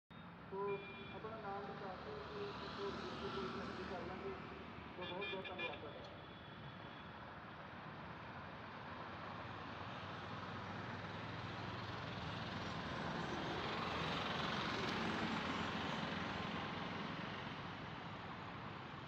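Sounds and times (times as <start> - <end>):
road traffic driving past: 0.2 - 19.0.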